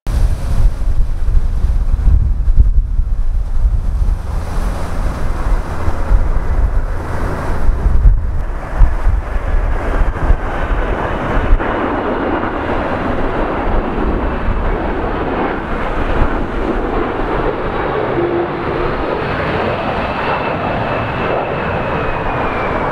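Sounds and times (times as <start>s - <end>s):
wind buffeting microphone: 0.0s - 22.9s
jet flying over: 0.1s - 22.9s.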